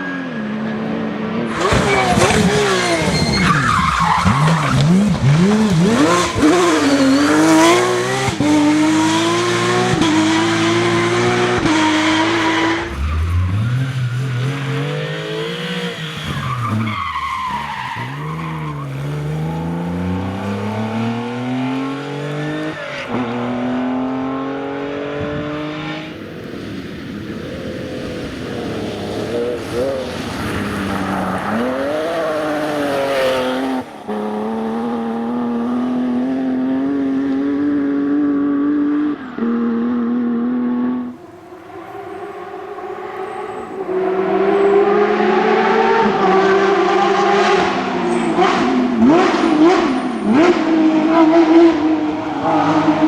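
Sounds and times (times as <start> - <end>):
rally car engines at full throttle: 0.0 - 53.0.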